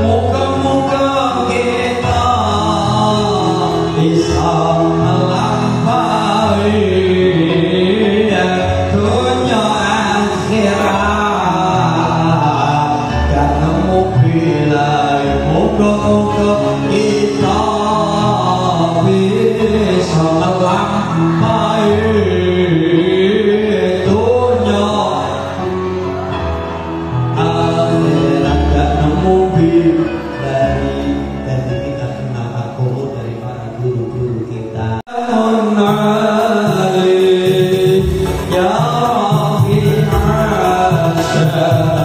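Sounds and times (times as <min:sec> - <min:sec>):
man singing through microphone: 0:00.0 - 0:42.0.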